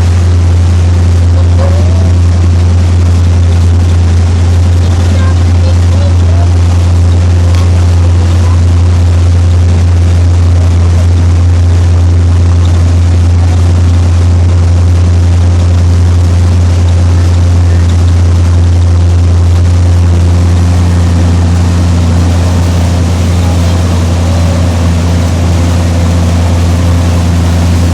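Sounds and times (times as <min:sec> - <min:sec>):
motorboat engine droning: 0:00.0 - 0:27.9
water and wind hiss: 0:00.0 - 0:27.9.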